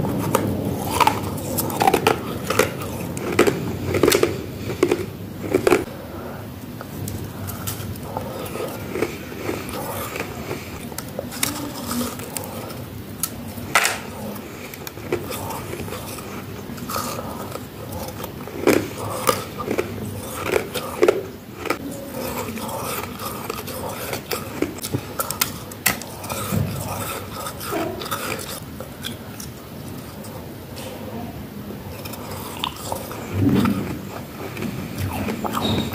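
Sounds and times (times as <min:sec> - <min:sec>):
crunchy biting and chewing of frost: 0:00.0 - 0:06.0, 0:06.8 - 0:30.8, 0:31.8 - 0:35.9.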